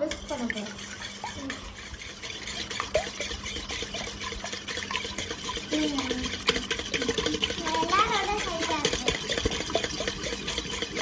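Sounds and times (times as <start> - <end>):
eggs sloshing in bowl: 0.0 - 11.0
whisk clicking against bowl: 0.0 - 11.0.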